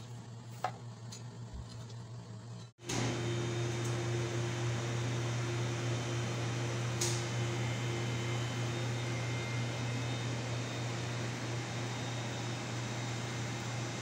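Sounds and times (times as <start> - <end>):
machine hum with hiss: 2.4 - 14.0.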